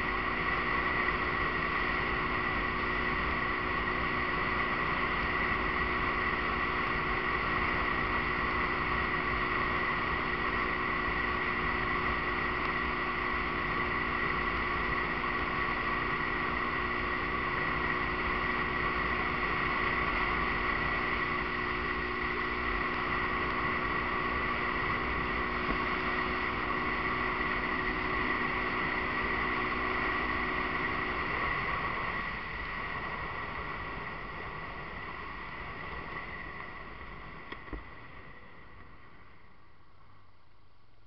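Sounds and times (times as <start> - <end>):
motorcycle engine running: 0.0 - 39.4.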